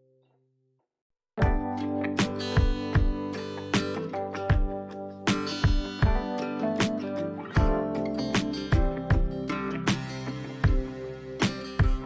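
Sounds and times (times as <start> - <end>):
guitar music with steady beat: 1.4 - 12.0.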